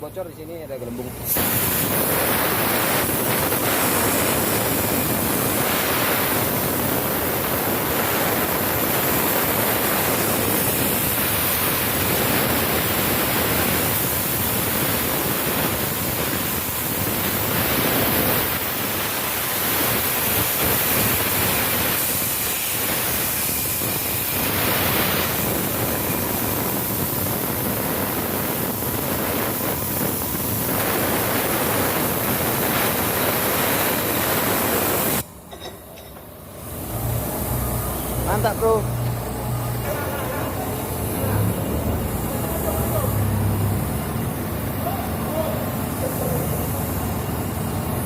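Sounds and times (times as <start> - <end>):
compressed air hissing: 1.1 - 35.3, 36.6 - 48.0.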